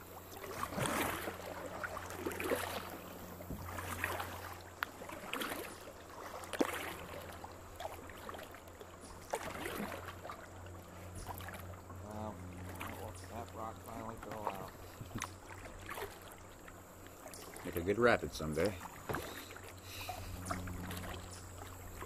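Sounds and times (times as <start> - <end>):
paddle strokes splashing: 0.0 - 22.0
steady low hum: 0.0 - 22.0.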